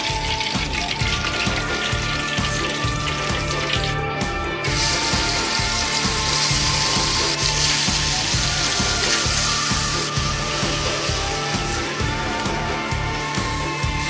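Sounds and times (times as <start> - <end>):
meat sizzling in hot oil: 0.0 - 4.0, 4.6 - 14.0
background music with beat: 0.0 - 14.0.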